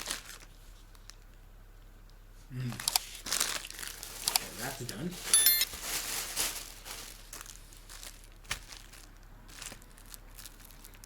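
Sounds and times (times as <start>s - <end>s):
plastic packaging crinkling: 0.0s - 1.2s, 3.0s - 11.0s.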